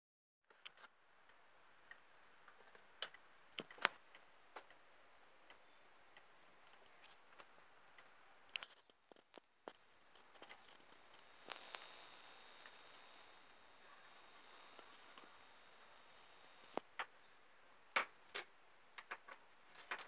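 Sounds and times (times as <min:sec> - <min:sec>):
low hiss: 0:00.5 - 0:20.0.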